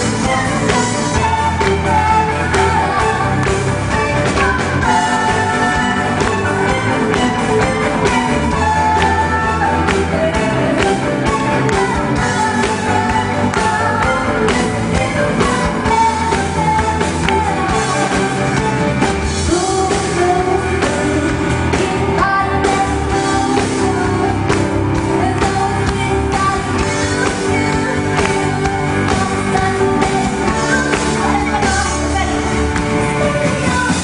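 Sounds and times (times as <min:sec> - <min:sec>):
person singing with instruments: 0:00.0 - 0:34.0.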